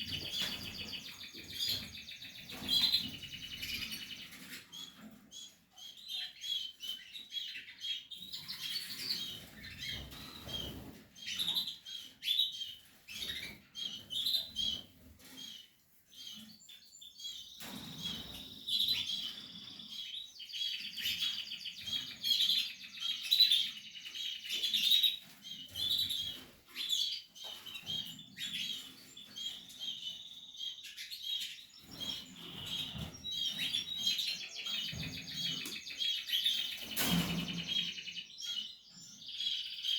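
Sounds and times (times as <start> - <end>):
canary chicks cheeping: 0.0 - 39.9.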